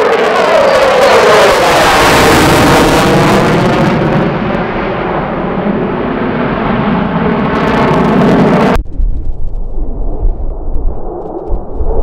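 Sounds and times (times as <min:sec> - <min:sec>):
jet engine roar flying by: 0:00.0 - 0:12.0.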